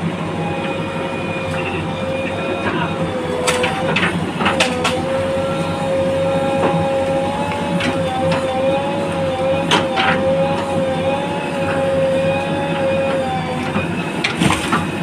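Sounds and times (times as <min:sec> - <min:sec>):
diesel engine whining under load: 0:00.0 - 0:15.0.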